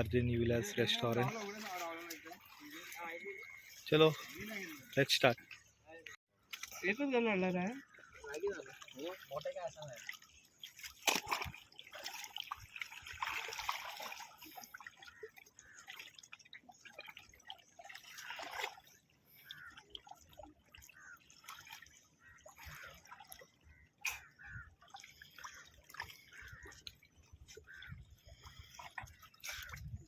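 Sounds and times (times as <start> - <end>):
water dripping and trickling: 0.3 - 30.0
small water splashes: 0.5 - 30.0.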